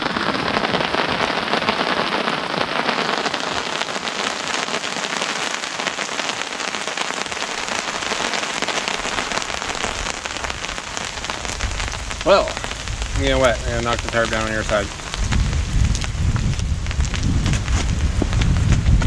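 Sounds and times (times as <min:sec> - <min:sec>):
rain pattering on a tarp: 0:00.0 - 0:19.0.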